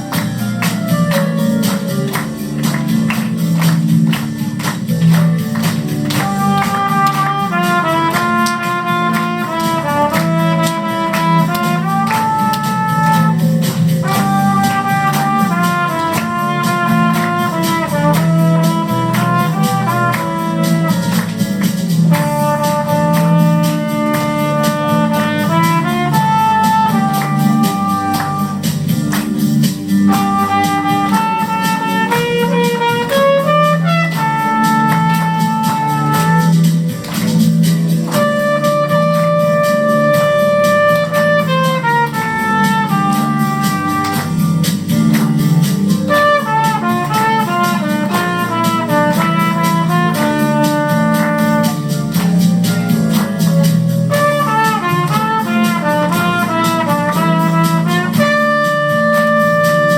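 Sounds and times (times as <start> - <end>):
low chords: 0.0 - 59.4
instrumental christmas song melody: 0.0 - 59.9.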